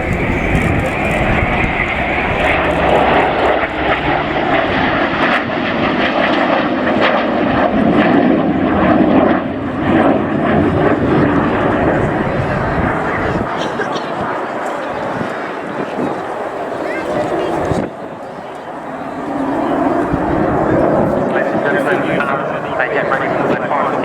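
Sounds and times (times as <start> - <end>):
propeller plane flying past: 0.0 - 24.0
rushing airflow: 0.0 - 24.0.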